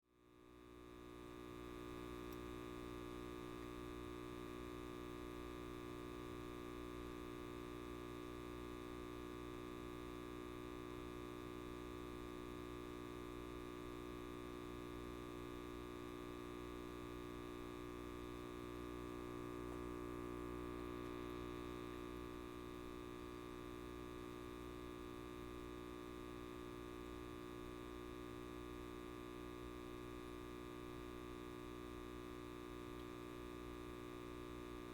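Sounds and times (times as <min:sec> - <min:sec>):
light bulb buzzing: 0:00.6 - 0:34.9.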